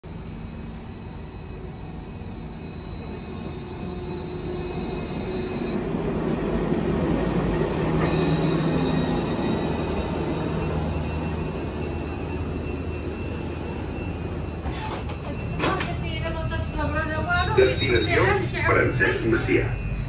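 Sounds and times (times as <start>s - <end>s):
tram wheels rumbling on rails: 0.1s - 20.0s.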